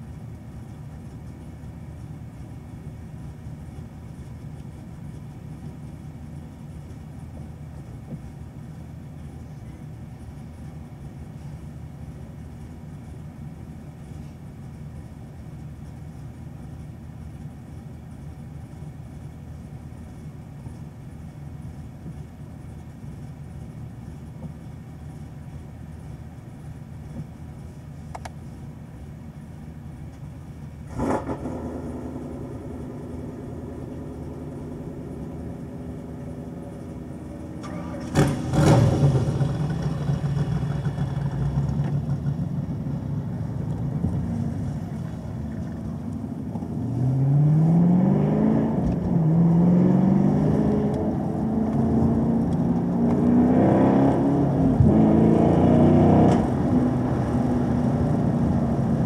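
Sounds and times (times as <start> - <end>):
car engine idling and accelerating: 0.0 - 59.0.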